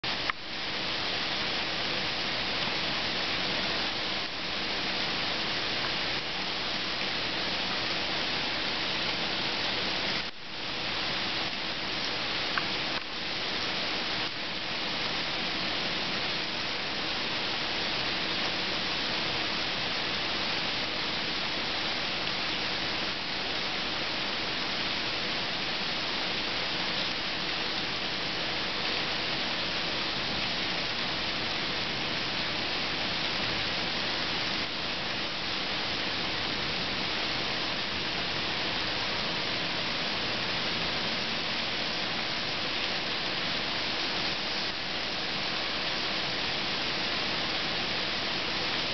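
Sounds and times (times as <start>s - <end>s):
heavy rain downpour: 0.0s - 48.9s.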